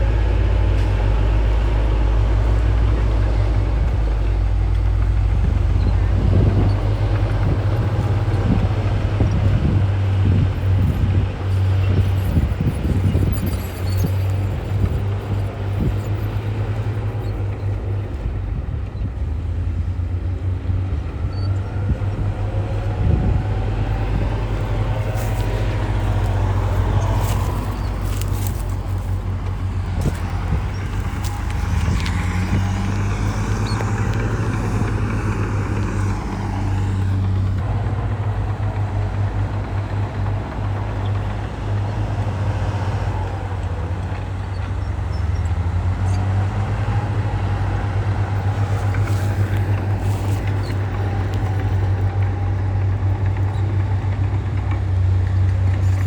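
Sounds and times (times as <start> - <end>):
diesel earthmoving machinery running: 0.0 - 56.0.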